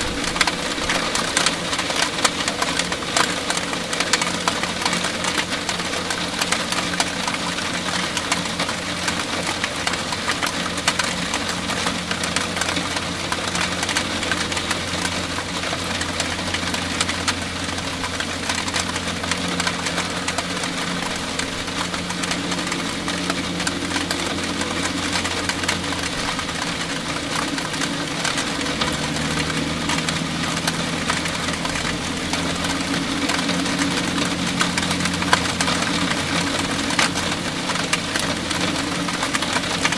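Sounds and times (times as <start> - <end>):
heavy rain hiss: 0.0 - 39.9
low hum: 0.0 - 39.9.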